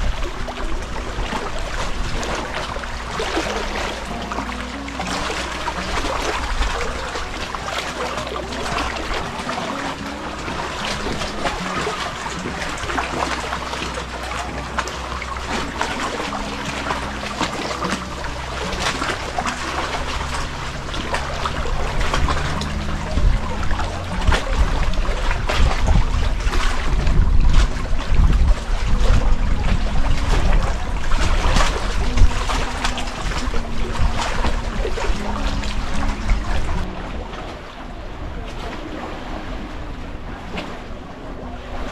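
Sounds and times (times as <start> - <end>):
low rumble: 0.0 - 41.9
wading through shallow seawater: 0.0 - 41.9.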